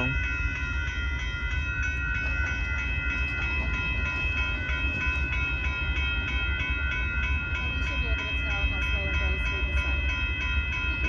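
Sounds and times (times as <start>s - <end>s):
crossing bell ringing rapidly: 0.0s - 11.0s.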